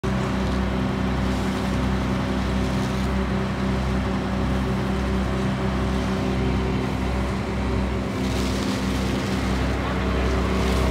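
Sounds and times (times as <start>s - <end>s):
vacuum truck droning: 0.0s - 10.9s.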